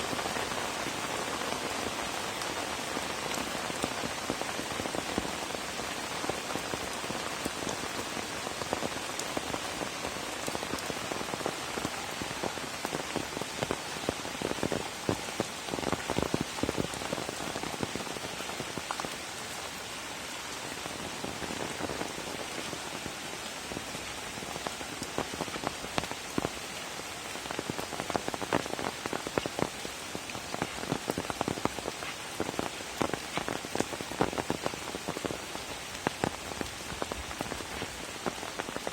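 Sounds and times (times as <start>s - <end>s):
raindrops tapping on surfaces: 0.0s - 38.9s
steady rain hiss: 0.0s - 38.9s.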